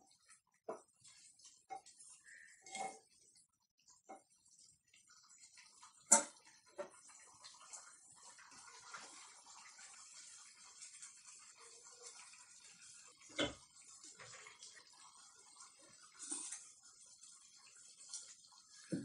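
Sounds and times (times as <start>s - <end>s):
gravy simmering and bubbling: 0.0s - 19.0s.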